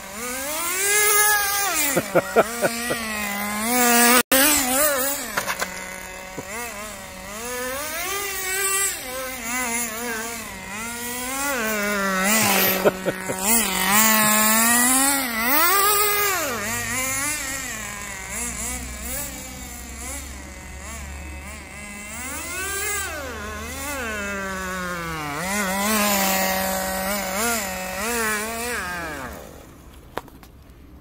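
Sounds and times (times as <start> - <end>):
small nitro engine revving: 0.0 - 30.4.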